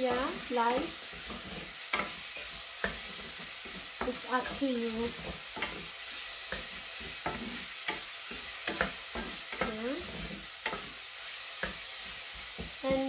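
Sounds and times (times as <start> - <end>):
meat sizzling in a pan: 0.0 - 13.0
spatula scraping and knocking pan: 0.0 - 13.0.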